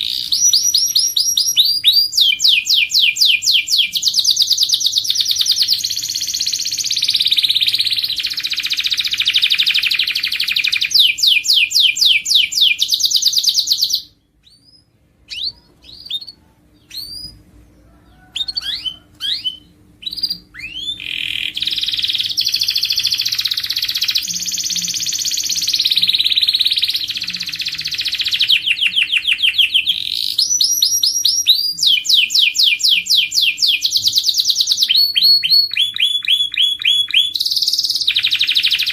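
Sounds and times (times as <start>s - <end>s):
canary singing trills: 0.0s - 38.9s
faint steady hum: 0.0s - 38.9s.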